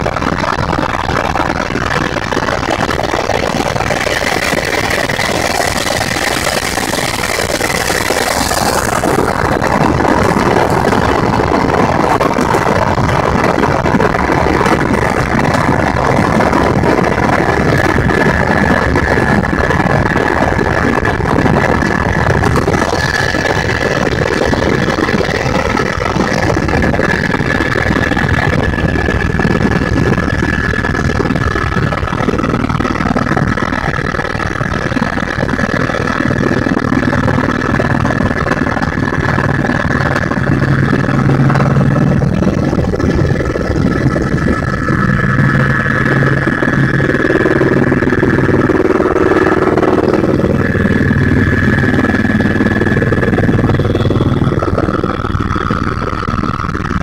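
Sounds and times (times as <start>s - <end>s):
helicopter engine and rotor drone: 0.0s - 57.0s
high whine: 0.0s - 57.0s.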